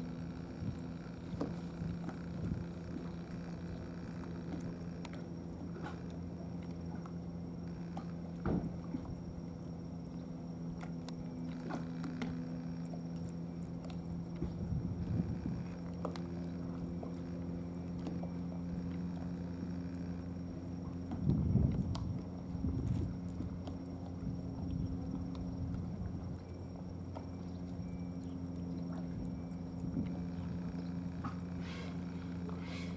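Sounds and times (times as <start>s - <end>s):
low engine hum: 0.0s - 32.9s.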